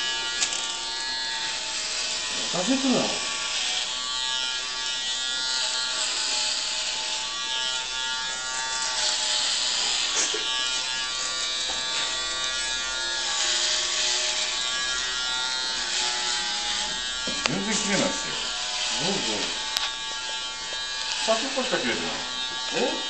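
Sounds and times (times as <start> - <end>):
electric hair clippers buzzing: 0.0 - 23.0.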